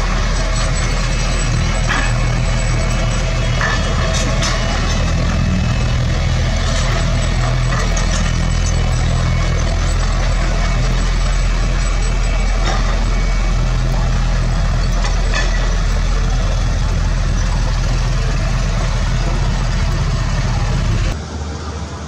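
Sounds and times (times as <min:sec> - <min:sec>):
diesel machine engine running: 0:00.0 - 0:22.0.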